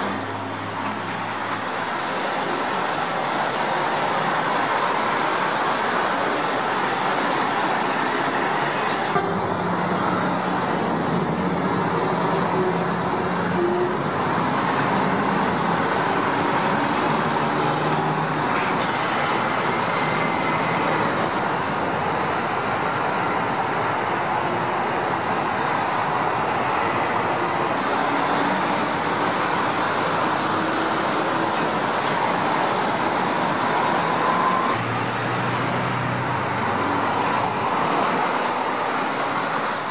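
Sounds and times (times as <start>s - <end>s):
highway traffic noise: 0.0s - 39.9s
vehicle engines humming: 0.0s - 39.9s.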